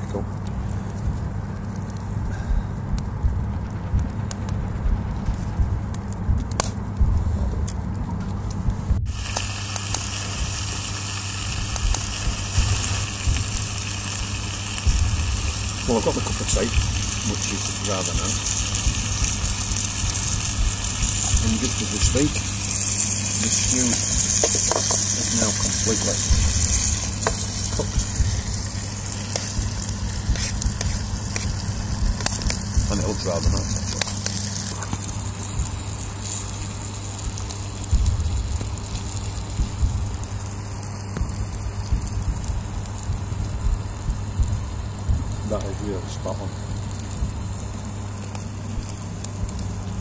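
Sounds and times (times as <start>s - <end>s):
low rumble: 0.0s - 50.0s
steady hiss: 0.0s - 50.0s
stew bubbling and sizzling: 0.0s - 50.0s.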